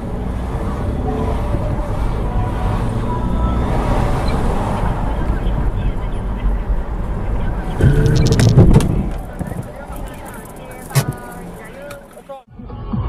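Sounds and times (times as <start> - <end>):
car engine and road noise: 0.0 - 12.5.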